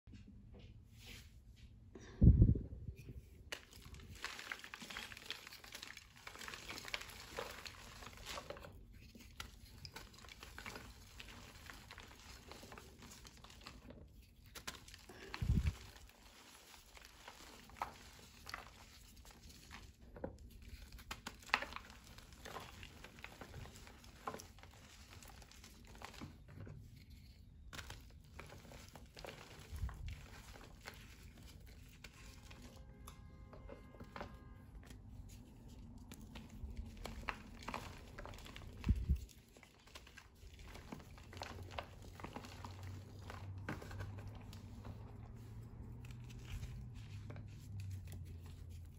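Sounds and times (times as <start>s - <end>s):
hands crumbling chalk: 3.4s - 48.9s.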